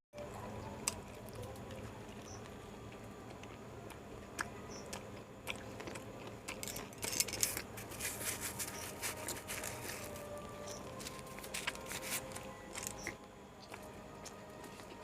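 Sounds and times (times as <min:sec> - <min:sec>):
person chewing food: 0:00.2 - 0:15.0.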